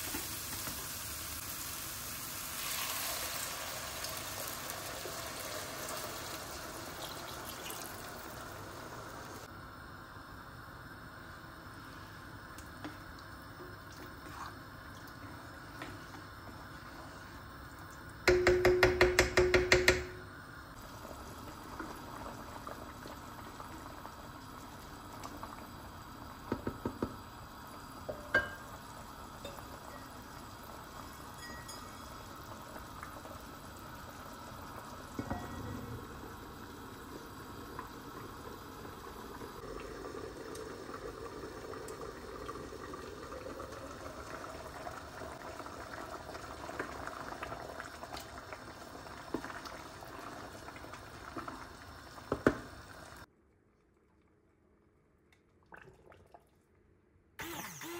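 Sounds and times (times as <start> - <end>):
soup bubbling in a pot: 0.0 - 56.8.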